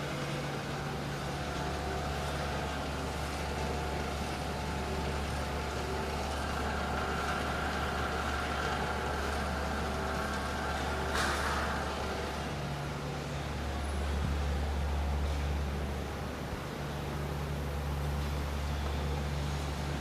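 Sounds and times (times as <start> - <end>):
agitator motor humming: 0.0 - 20.0.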